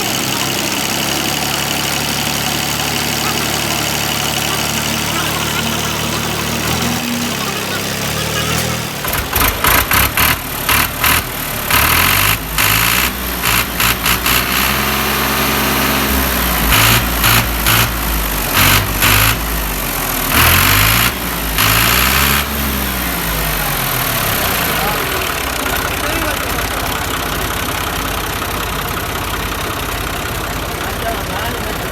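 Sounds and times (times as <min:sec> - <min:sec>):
diesel engine revving: 0:00.0 - 0:31.9.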